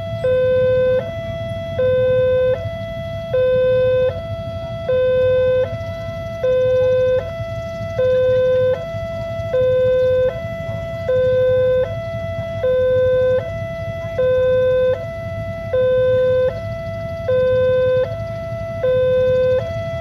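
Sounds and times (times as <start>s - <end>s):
two-tone crossing alarm: 0.0s - 20.0s.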